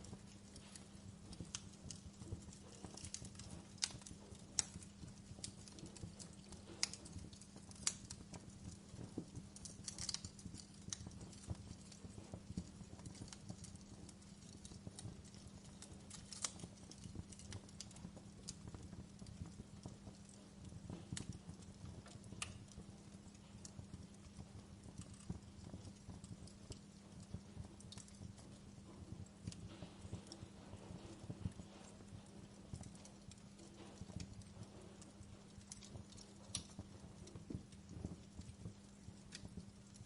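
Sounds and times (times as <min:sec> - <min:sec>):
low steady hum: 0:00.0 - 0:40.0
wood fire crackling and popping: 0:00.0 - 0:40.0.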